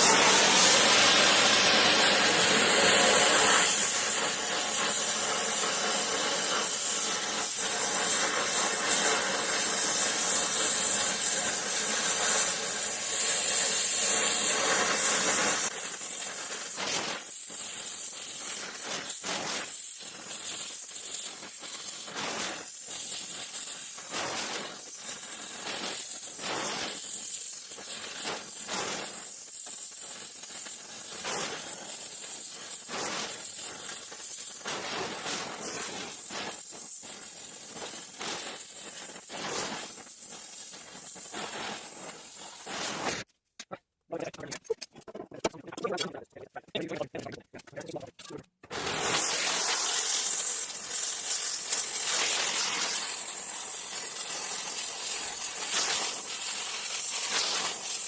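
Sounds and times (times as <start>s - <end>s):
welding torch flame hissing: 0.0s - 43.3s, 44.1s - 58.0s
metal crackles and pops: 0.0s - 58.0s.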